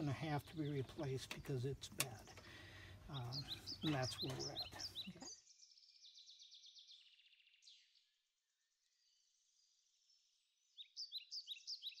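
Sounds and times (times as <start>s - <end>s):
faint songbird calls: 0.0s - 8.2s, 8.9s - 12.0s.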